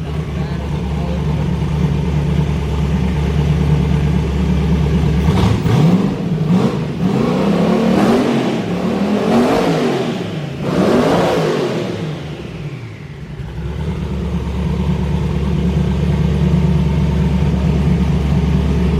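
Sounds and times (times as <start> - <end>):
engine idling and revving: 0.0 - 18.9.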